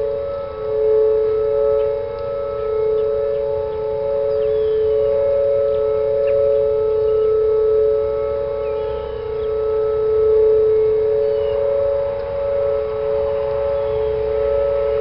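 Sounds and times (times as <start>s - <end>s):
outdoor warning sirens: 0.0s - 15.0s.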